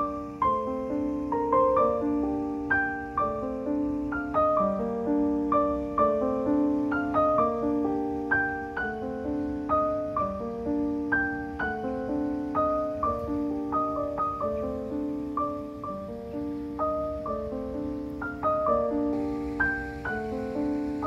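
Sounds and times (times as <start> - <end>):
calm piano melody: 0.0 - 21.0.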